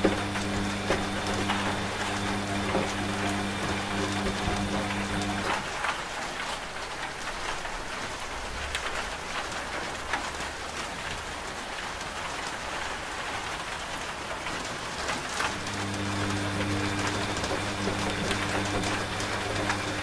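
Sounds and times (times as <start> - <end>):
faint washing machine hum: 0.0 - 20.0
rain falling on a surface: 0.0 - 20.0.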